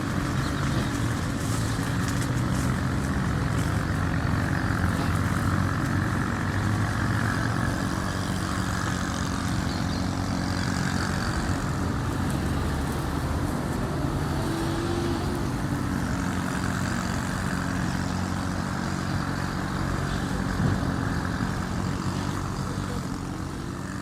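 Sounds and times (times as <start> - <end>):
engine hum: 0.0 - 24.0.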